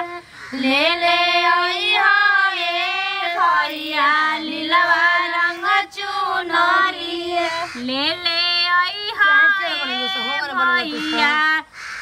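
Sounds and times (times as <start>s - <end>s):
women singing folk song: 0.0s - 11.7s.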